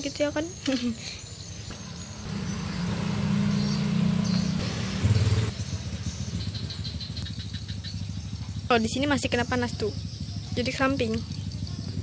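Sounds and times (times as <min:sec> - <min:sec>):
motorcycle passing: 0:01.6 - 0:12.0.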